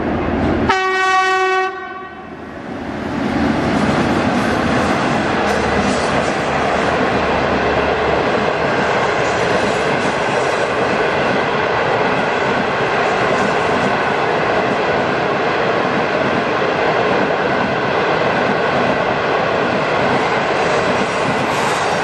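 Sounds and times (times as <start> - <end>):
train wheels on rail: 0.0 - 22.0.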